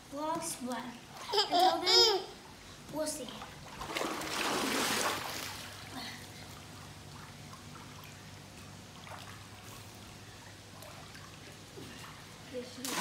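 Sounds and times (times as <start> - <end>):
low steady hum: 0.0 - 13.0
pool water lapping: 0.1 - 13.0.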